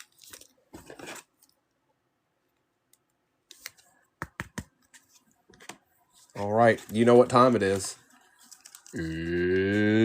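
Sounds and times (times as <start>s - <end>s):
cards and packaging rustling: 0.0s - 1.6s, 3.5s - 10.0s.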